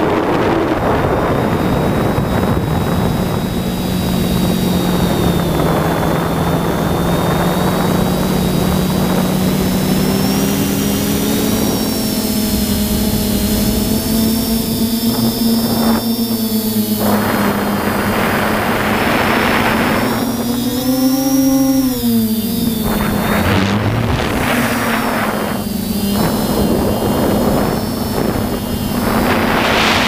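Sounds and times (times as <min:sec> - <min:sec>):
drone motors humming: 0:00.0 - 0:30.0
wind on microphone: 0:00.0 - 0:30.0.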